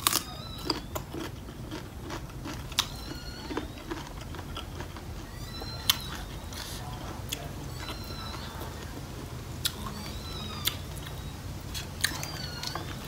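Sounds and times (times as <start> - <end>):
chewing crunchy salad: 0.0 - 13.0.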